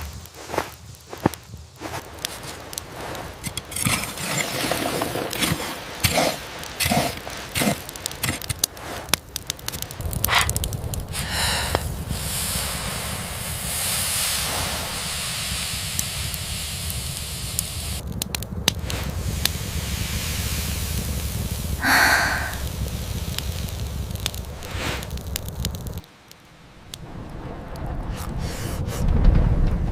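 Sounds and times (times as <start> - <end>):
wood fire crackling and popping: 0.0 - 28.4
rain hiss: 0.0 - 29.0.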